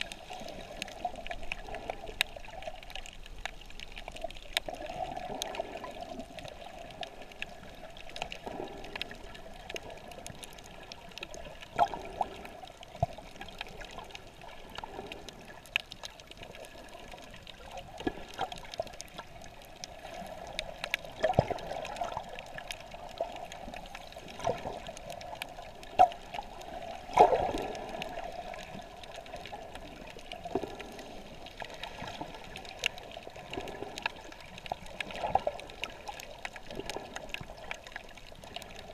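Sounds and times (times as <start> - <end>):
muffled underwater hiss and sloshing: 0.0 - 38.9
sharp underwater clicks: 0.0 - 38.9.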